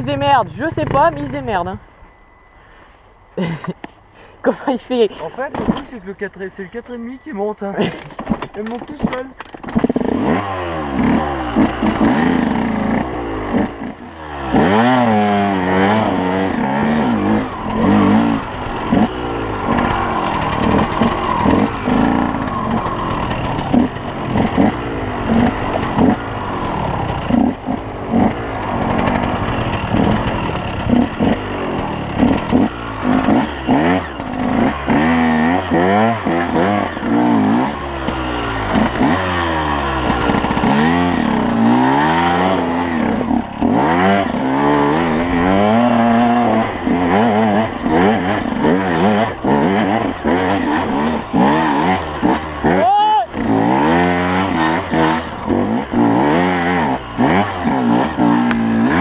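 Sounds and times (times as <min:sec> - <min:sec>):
two-stroke engine revving: 0:00.0 - 0:01.8, 0:04.6 - 0:59.0.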